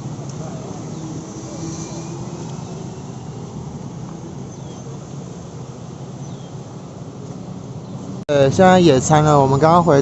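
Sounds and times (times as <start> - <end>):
passing traffic rumble: 0.0 - 10.0.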